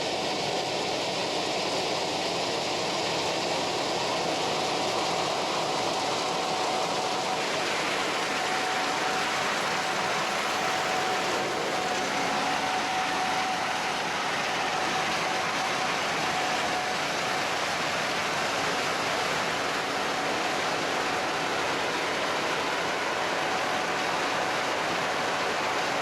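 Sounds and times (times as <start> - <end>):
combine harvester running: 0.0 - 26.0
faint steady whine: 0.0 - 26.0.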